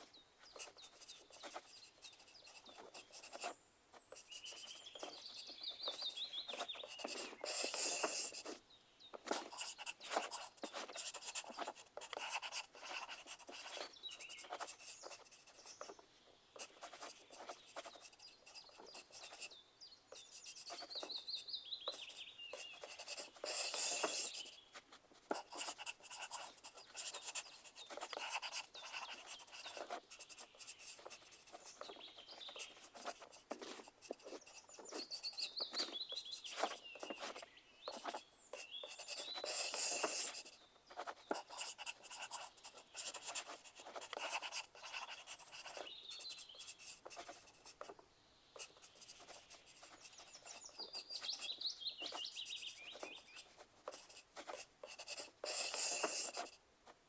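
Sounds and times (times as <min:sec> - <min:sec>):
pencils scratching on paper: 0:00.0 - 0:08.6, 0:09.2 - 0:16.0, 0:16.6 - 0:19.6, 0:20.2 - 0:48.0, 0:48.6 - 0:56.6
pencil rubbing: 0:00.5 - 0:08.6, 0:09.2 - 0:16.0, 0:16.6 - 0:48.0, 0:48.6 - 0:56.6.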